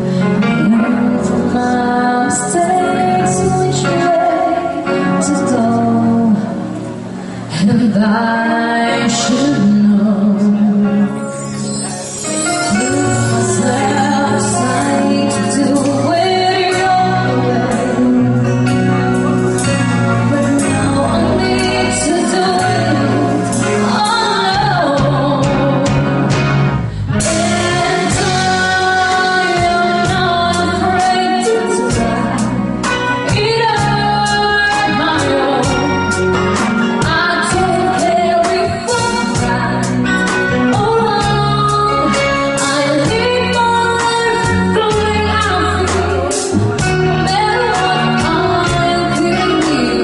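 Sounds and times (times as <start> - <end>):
lead singer singing: 0.0 - 26.4, 27.1 - 50.0
band playing a song: 0.0 - 50.0
sustained bass notes: 0.0 - 50.0.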